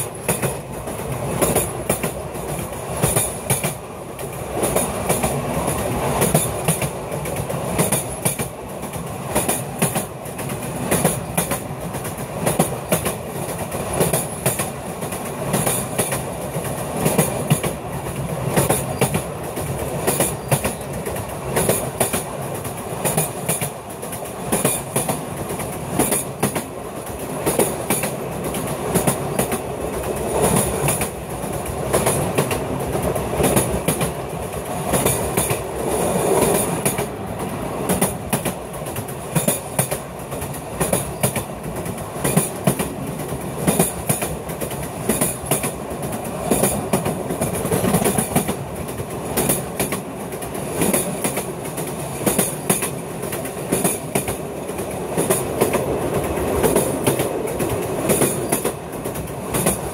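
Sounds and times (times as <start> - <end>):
rail joint clatter: 0.0 - 59.9
train wheels rumbling on rails: 0.0 - 59.9.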